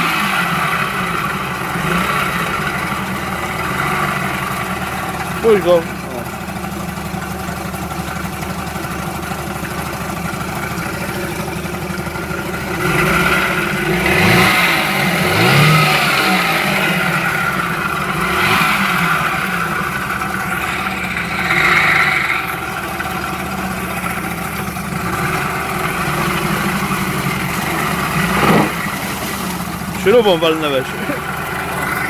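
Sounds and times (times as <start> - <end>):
outboard motor idling and revving: 0.0 - 32.0.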